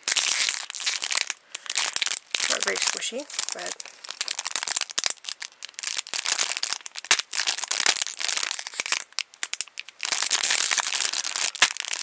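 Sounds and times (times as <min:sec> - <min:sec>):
foam toy crackling when squeezed: 0:00.0 - 0:12.0.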